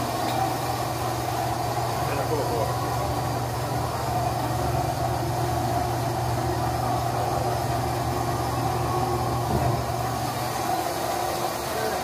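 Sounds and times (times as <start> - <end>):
vacuum pump motor humming: 0.0 - 12.0.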